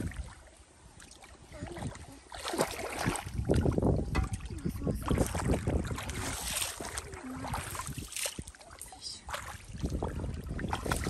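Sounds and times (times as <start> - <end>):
hands splashing in muddy water: 0.0 - 11.0.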